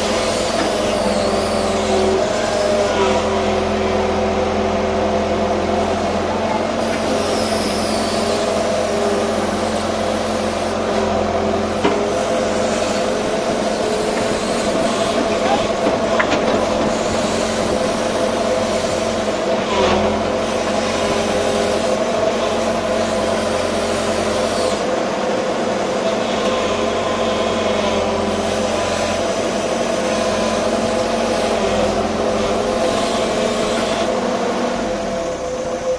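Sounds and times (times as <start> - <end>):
excavator diesel engine running: 0.0 - 35.9
hydraulic pump whine: 0.0 - 35.9.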